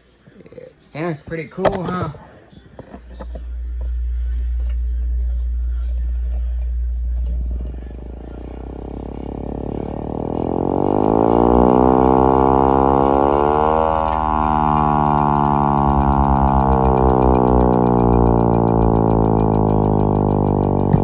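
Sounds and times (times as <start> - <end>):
hand-crank siren wailing: 2.8 - 21.0.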